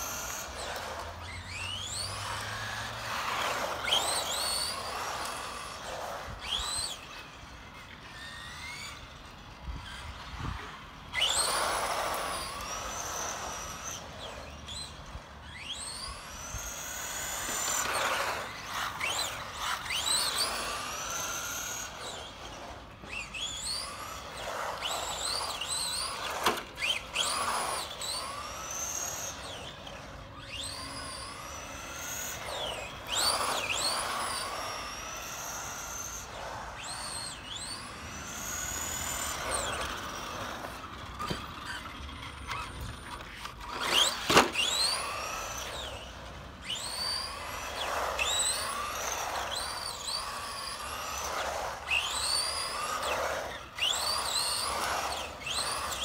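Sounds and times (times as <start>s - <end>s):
toy truck motor whining: 0.0s - 56.0s.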